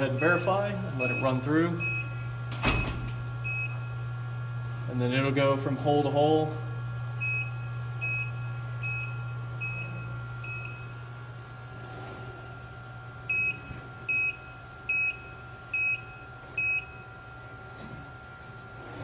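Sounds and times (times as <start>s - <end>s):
low steady machine hum: 0.0s - 19.0s.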